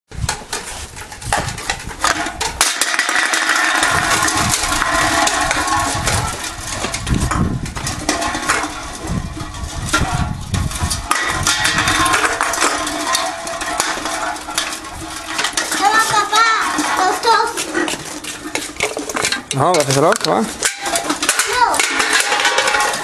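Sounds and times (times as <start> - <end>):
cans clattering on tiled floor: 0.3 - 23.0.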